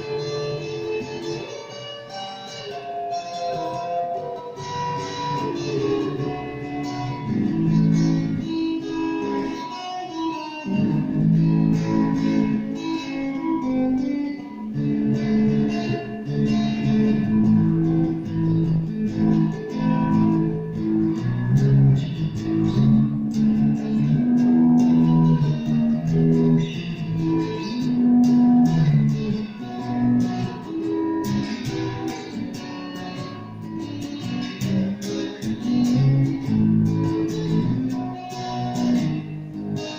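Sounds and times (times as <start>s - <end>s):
electric guitar notes and chords: 0.0s - 39.9s.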